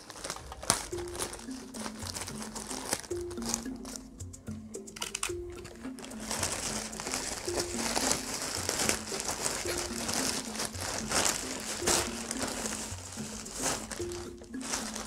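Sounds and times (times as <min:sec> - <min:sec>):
plastic bag and bubble wrap crinkling: 0:00.0 - 0:04.1, 0:05.0 - 0:15.0
soft background music: 0:00.0 - 0:15.0.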